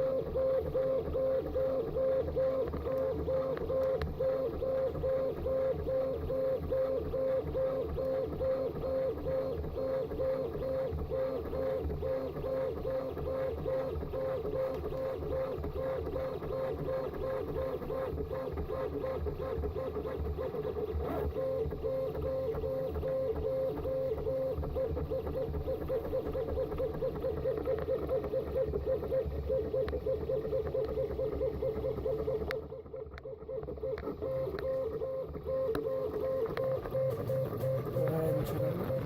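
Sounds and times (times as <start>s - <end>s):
printer stepper motors whining: 0.0s - 39.0s.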